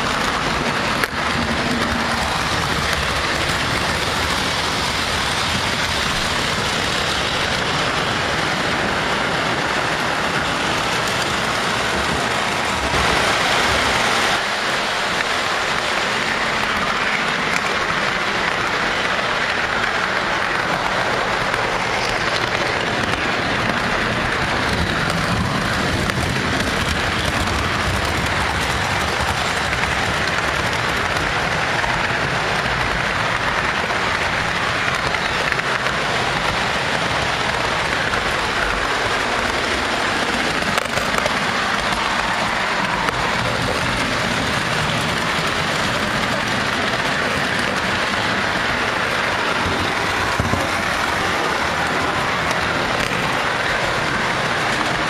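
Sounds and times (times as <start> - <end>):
model train wheels clattering: 0.0 - 55.0.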